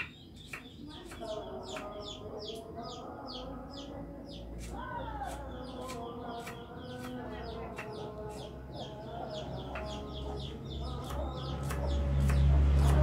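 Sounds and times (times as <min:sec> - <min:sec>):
chickens clucking: 0:00.0 - 0:13.0
small birds chirping: 0:00.0 - 0:13.0.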